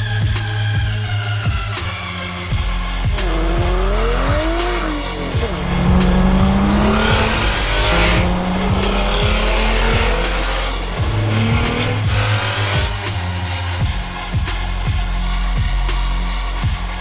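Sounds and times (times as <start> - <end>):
background music with beat: 0.0 - 17.0
car engine revving: 0.2 - 16.2.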